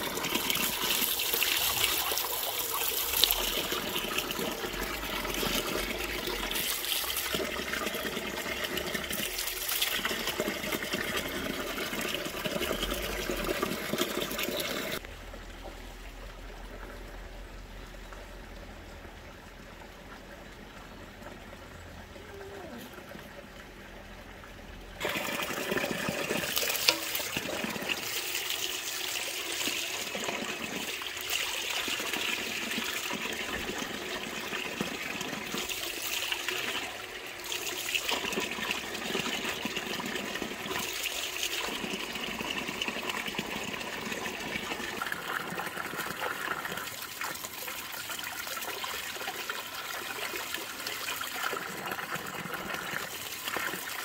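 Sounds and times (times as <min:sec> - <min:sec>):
water running and splashing: 0:00.0 - 0:15.0, 0:25.0 - 0:54.0.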